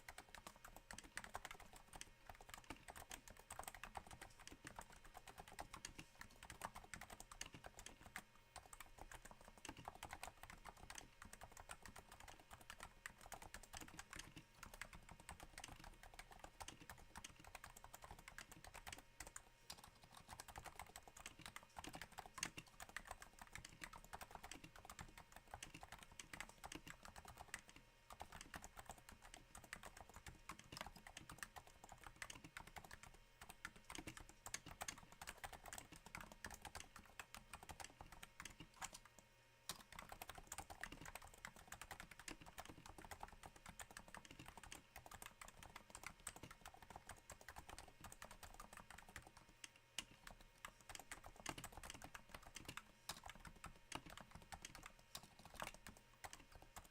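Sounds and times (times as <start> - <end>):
muted keyboard typing: 0.0 - 56.9.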